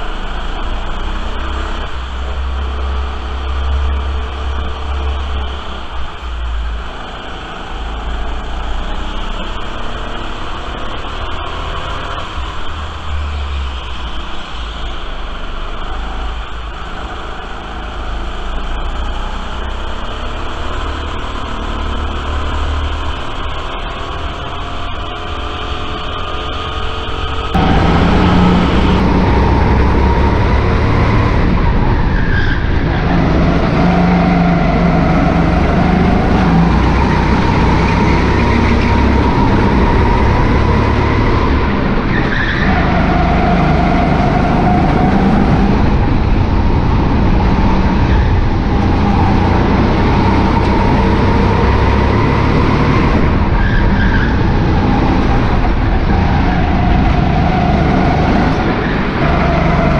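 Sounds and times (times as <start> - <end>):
go-kart motor revving: 0.0 - 59.9.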